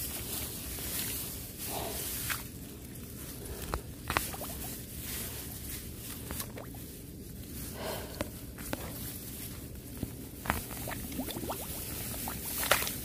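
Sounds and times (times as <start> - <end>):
rustling of rice leaves: 0.0 - 13.0
small clicks and wet sounds: 2.0 - 13.0.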